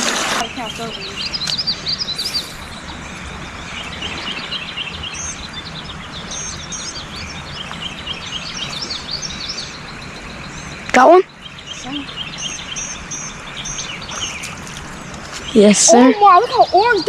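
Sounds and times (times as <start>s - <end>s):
birds chirping: 0.0s - 17.0s
outdoor background hiss: 0.0s - 17.0s.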